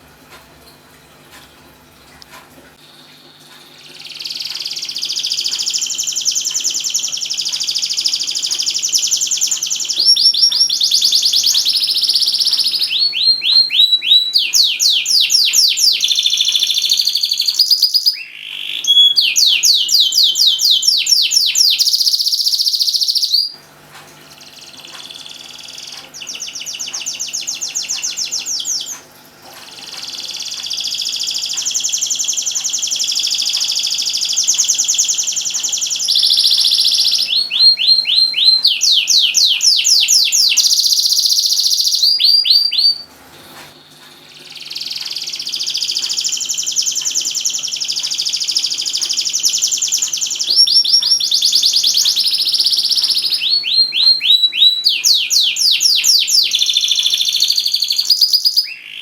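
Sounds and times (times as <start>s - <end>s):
canary singing trills: 2.8s - 23.6s, 24.4s - 59.0s.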